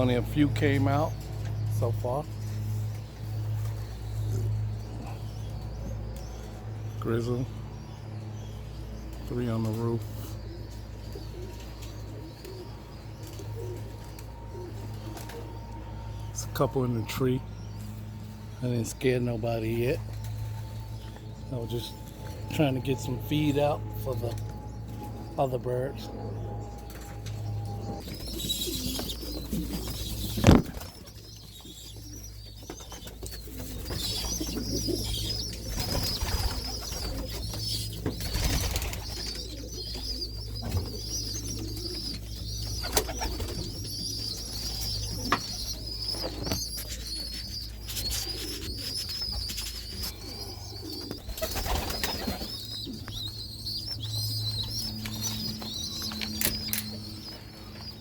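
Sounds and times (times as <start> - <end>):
pigeons cooing: 0.0 - 58.0.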